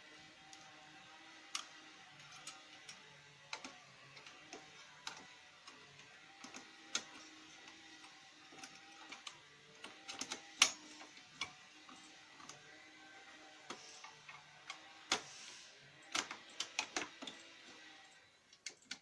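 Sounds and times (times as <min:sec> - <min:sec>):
printer whir: 0:00.0 - 0:19.0.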